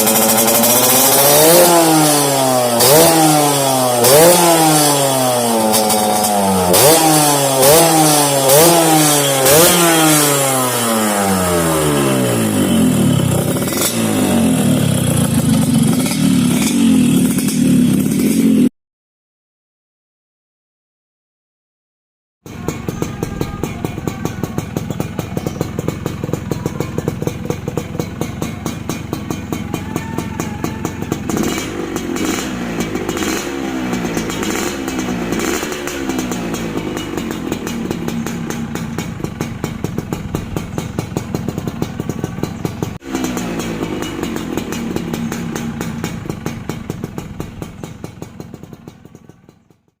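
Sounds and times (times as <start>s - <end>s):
motorcycle engine revving: 0.0s - 18.7s, 22.4s - 50.0s
two-stroke motorcycle engine idling: 0.0s - 18.7s, 22.5s - 50.0s.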